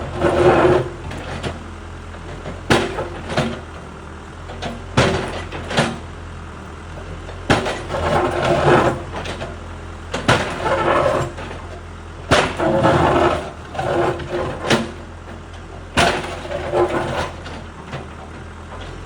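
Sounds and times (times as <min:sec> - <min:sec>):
broken concrete grinding scrapes: 0:00.0 - 0:19.0
diesel engine running: 0:00.0 - 0:19.0.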